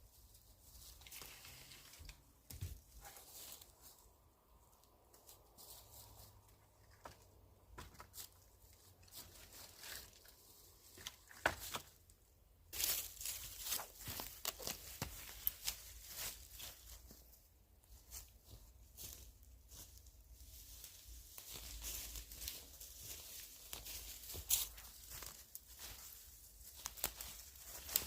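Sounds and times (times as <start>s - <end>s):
dry branches rustling and cracking: 0.1s - 28.0s.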